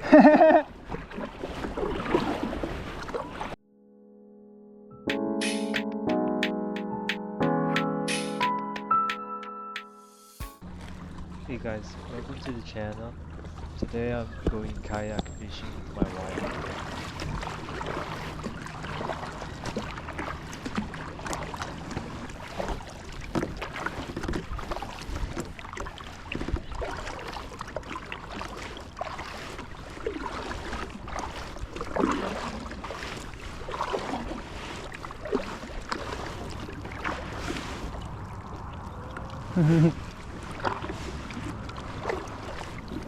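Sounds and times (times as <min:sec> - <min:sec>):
water splashing around kayak: 0:00.0 - 0:03.6, 0:10.6 - 0:43.0.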